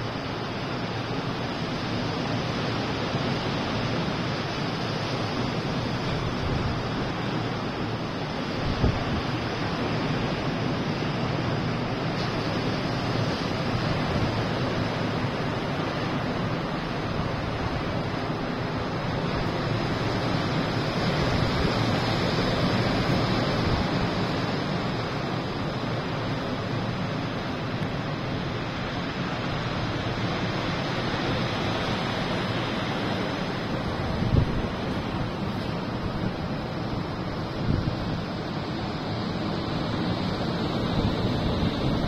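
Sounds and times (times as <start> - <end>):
waves breaking on sandy beach: 0.0 - 42.0.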